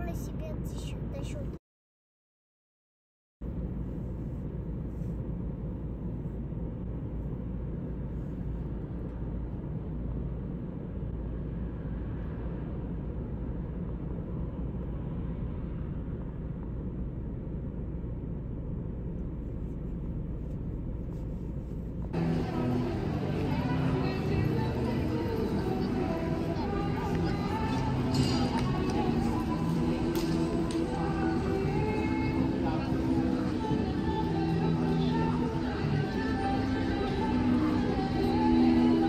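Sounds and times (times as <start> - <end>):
city road traffic rumble: 0.0 - 1.6, 3.4 - 39.0.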